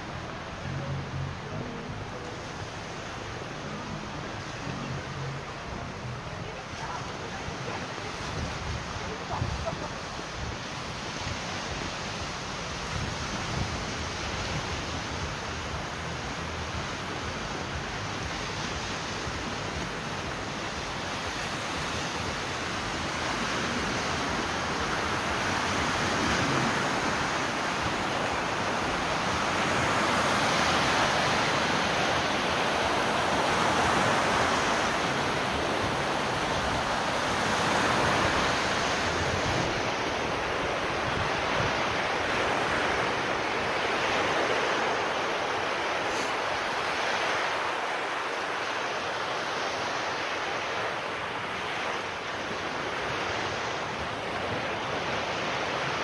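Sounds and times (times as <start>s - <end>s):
waves washing onto rocky shore: 0.0s - 56.0s.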